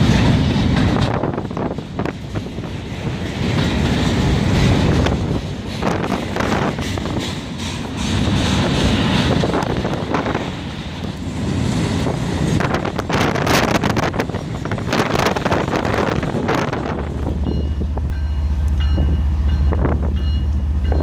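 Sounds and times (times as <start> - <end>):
train rumbling past: 0.0 - 21.0
wind buffeting microphone: 0.0 - 21.0.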